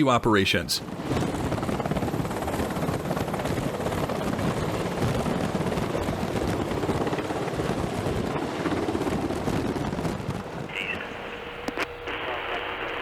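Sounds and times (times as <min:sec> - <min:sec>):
helicopter rotors chopping: 0:00.0 - 0:13.0.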